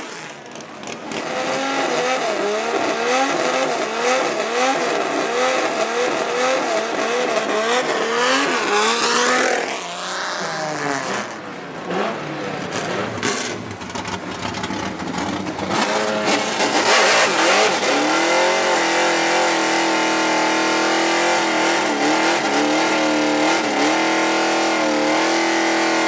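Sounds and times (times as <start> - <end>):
performance car engine revving: 0.0 - 26.0.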